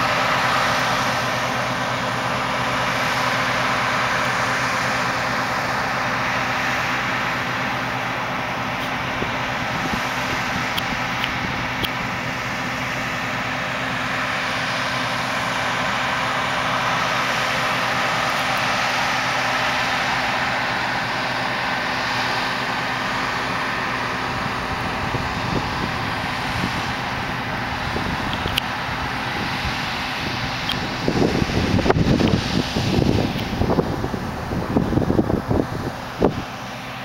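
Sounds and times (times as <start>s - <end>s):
combine harvester drone: 0.0s - 37.0s.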